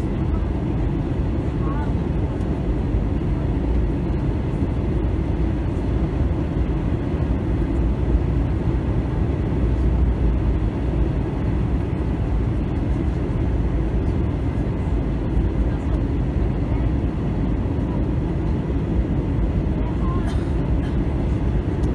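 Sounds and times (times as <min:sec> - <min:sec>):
airplane cabin jet engine rumble: 0:00.0 - 0:21.9.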